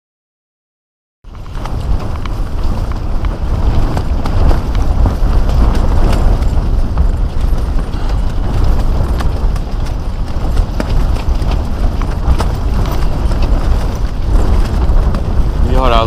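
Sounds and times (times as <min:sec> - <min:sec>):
low rumble of storm wind: 0:01.2 - 0:16.0
tent fabric flapping: 0:01.2 - 0:16.0.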